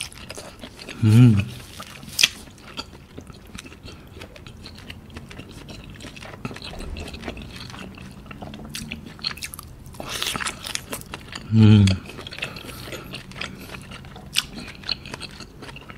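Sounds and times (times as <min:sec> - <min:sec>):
person chewing squid: 0:00.0 - 0:15.9.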